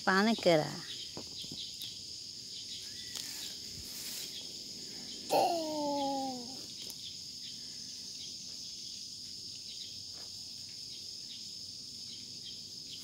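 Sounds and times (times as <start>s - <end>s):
insects chirping chorus: 0.0s - 13.0s.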